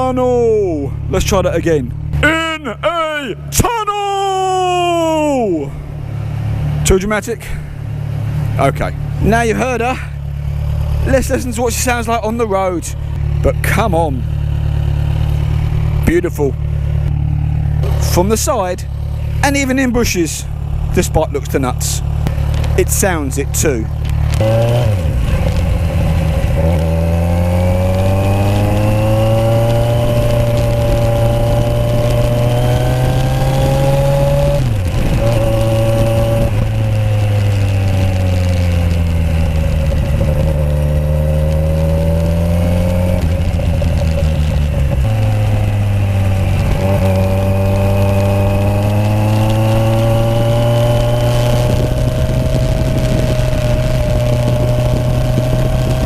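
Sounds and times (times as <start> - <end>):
motorcycle engine revving: 4.4 - 56.0.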